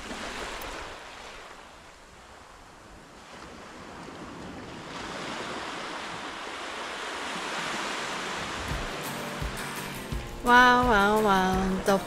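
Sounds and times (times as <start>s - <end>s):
small waves washing onto shore: 0.0s - 10.2s.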